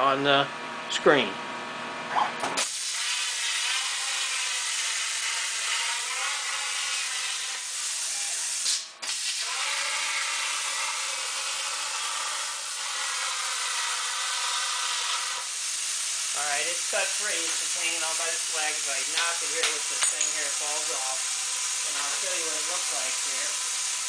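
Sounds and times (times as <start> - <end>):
plasma cutter hissing: 2.6 - 24.0.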